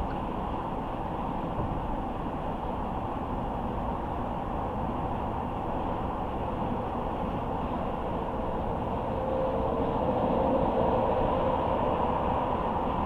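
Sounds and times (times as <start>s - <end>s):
car tyre and road noise: 0.0s - 13.0s
faint hum: 0.0s - 13.0s.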